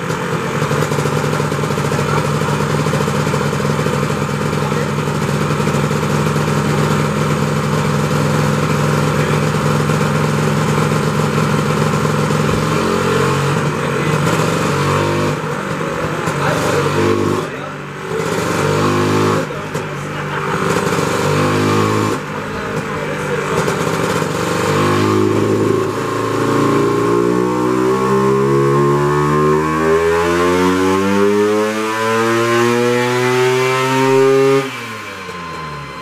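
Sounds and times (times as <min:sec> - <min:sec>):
scooter engine revving: 0:00.0 - 0:36.0.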